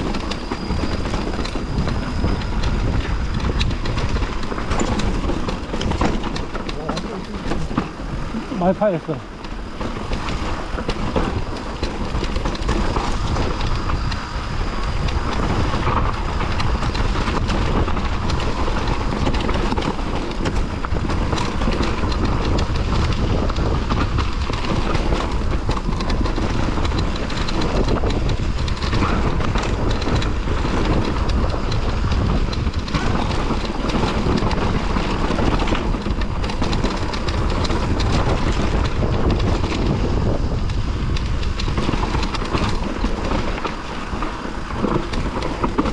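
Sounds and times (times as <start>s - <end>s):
bike rattling: 0.0s - 45.9s
bike tyre rumble on dirt: 0.0s - 45.9s
wind buffeting microphone: 0.0s - 45.9s.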